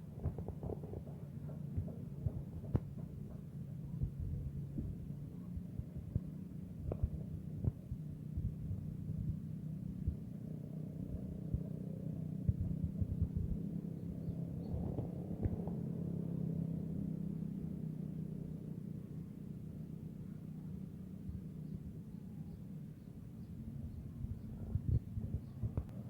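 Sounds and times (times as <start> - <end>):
wind buffeting microphone: 0.0 - 17.0, 21.3 - 26.0.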